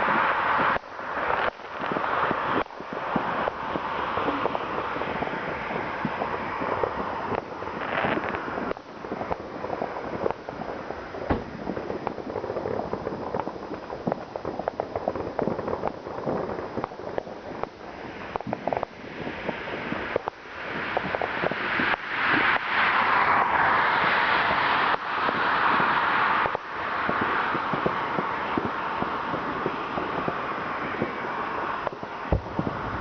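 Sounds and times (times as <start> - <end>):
fireworks bangs: 0.0 - 33.0
fireworks crackling and popping: 0.0 - 33.0
fireworks hissing: 0.0 - 33.0.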